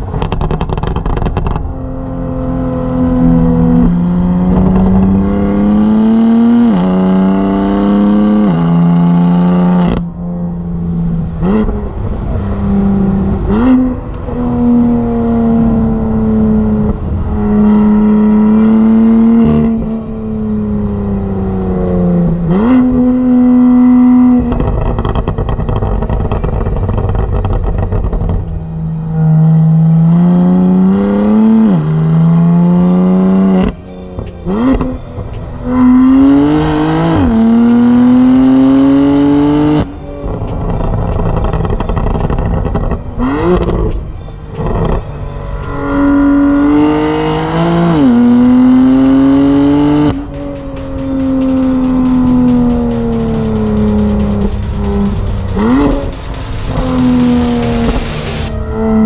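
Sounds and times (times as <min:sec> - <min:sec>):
car engine accelerating through gears: 0:00.0 - 0:59.0.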